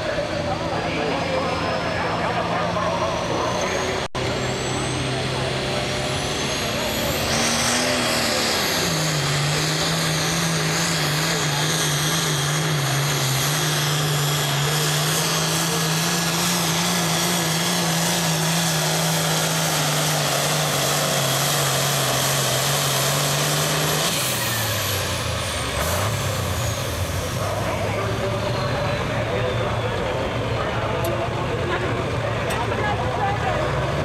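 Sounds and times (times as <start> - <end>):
diesel tractor engine at high revs: 0.0 - 34.0.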